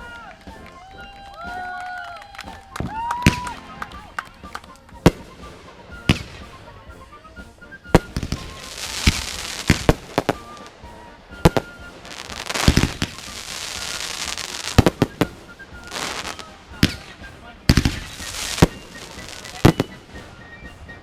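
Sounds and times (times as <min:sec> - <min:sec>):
fireworks crackling: 0:00.0 - 0:21.0
fireworks banging: 0:02.4 - 0:21.0.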